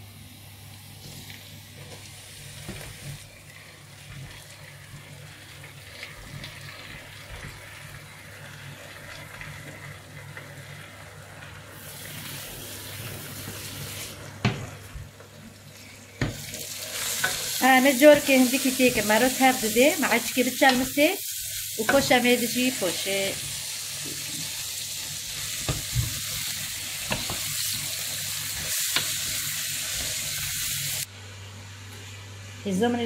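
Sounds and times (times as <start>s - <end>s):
leaves sizzling in a pot: 0.0s - 31.1s.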